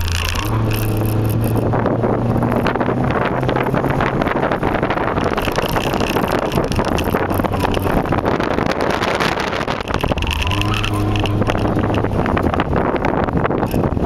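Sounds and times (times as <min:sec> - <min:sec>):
car engine under load: 0:00.0 - 0:14.0
wind and tyre noise: 0:00.0 - 0:14.0.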